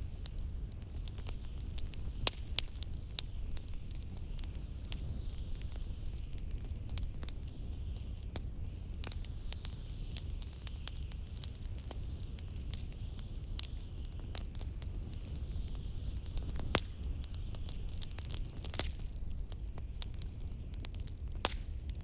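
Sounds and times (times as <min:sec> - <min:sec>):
low rumble of wind: 0:00.0 - 0:22.0
wood fire crackling and popping: 0:00.0 - 0:22.0.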